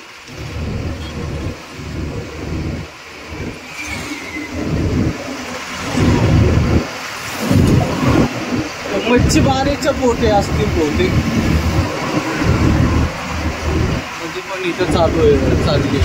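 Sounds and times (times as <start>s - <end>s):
truck engine and road noise: 0.0s - 16.0s
wind buffeting microphone: 0.3s - 16.0s.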